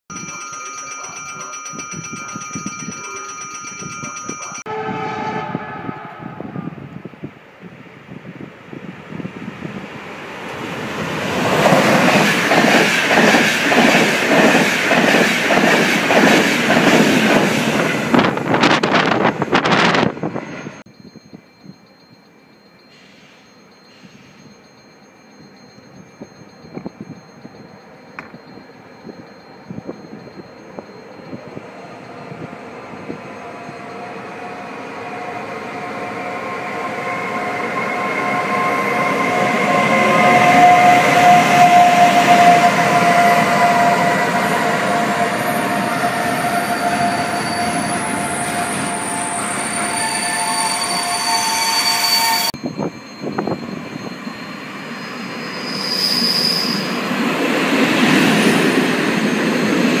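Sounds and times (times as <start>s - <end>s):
steady high tones: 0.1s - 6.9s, 18.1s - 60.0s
freight train passing: 0.1s - 60.0s
passenger train moving: 0.1s - 60.0s.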